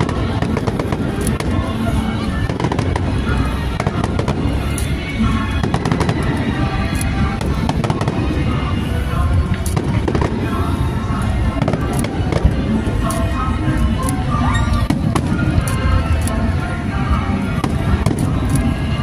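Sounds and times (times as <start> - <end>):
fireworks cracking and popping: 0.0 - 8.8, 9.4 - 13.3, 14.0 - 16.0, 17.5 - 19.0
music playing: 0.0 - 19.0.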